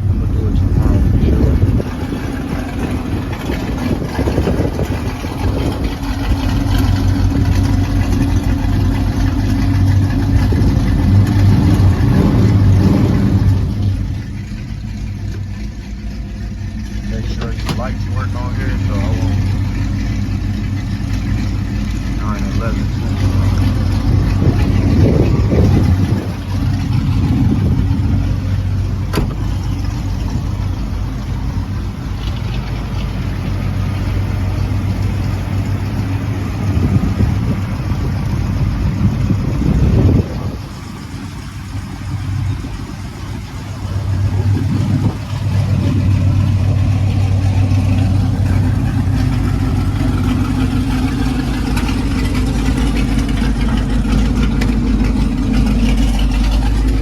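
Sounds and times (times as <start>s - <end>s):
car engine and exhaust running: 0.0s - 57.0s.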